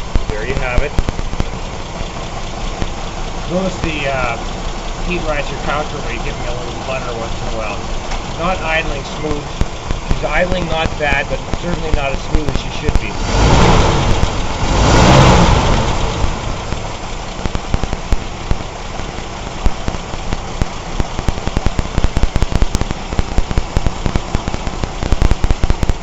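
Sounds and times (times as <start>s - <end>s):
car engine idling roughly: 0.0s - 26.0s
sharp engine pops and ticks: 0.0s - 26.0s.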